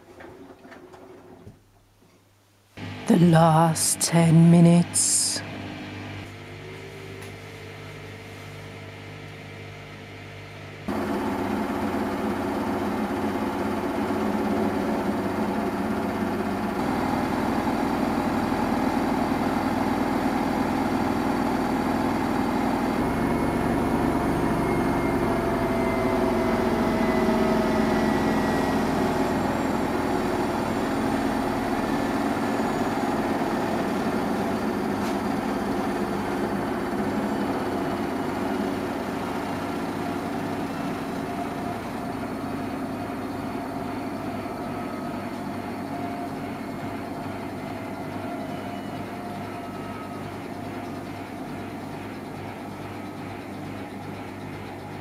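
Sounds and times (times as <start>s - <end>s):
washing machine spinning: 0.0s - 1.7s, 5.4s - 55.0s
washing machine running hum: 0.0s - 2.0s, 2.8s - 55.0s.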